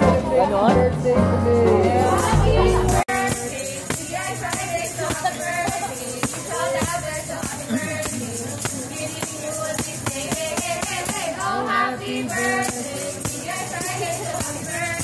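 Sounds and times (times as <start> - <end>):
group singing: 0.0 - 15.0.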